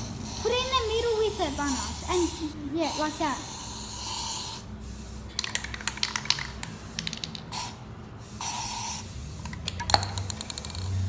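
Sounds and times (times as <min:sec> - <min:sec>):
spray paint hissing: 0:00.0 - 0:11.0
spray can rattling: 0:00.1 - 0:11.0.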